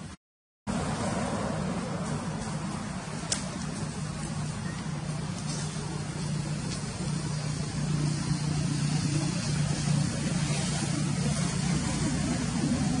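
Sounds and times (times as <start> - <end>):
low engine-like hum: 0.0 - 13.0
noisy rush: 0.0 - 13.0.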